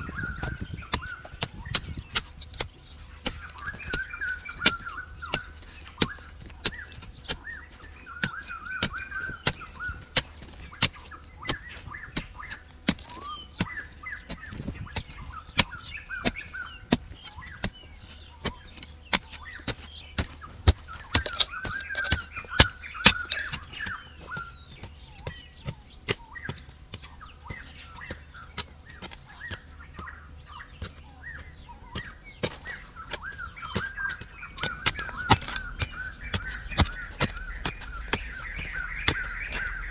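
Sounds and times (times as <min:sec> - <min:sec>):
birds chirping: 0:00.0 - 0:39.9
hoe chopping into dry soil: 0:00.0 - 0:39.9.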